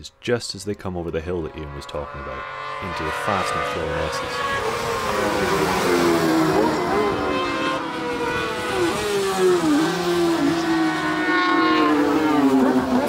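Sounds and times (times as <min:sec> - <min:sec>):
racing engines screaming: 0:00.6 - 0:13.0.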